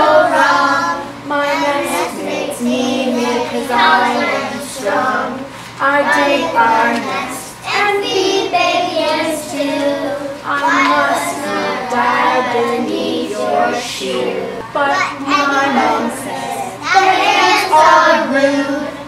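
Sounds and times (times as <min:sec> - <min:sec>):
child singing: 0:00.0 - 0:19.0.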